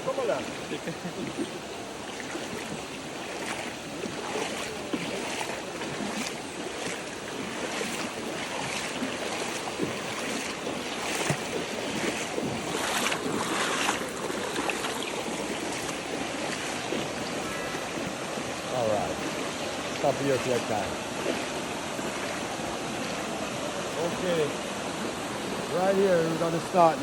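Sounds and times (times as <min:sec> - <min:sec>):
river water rushing over rocks: 0:00.0 - 0:27.0.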